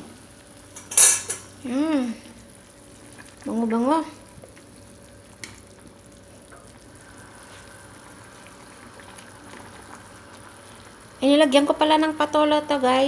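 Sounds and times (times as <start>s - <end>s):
broth bubbling in a pot: 0.0s - 13.0s.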